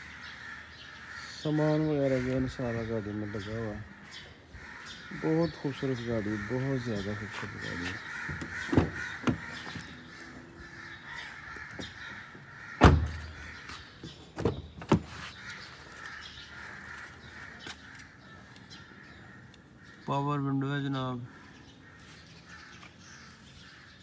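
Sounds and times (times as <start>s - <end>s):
birds calling: 0.0s - 24.0s.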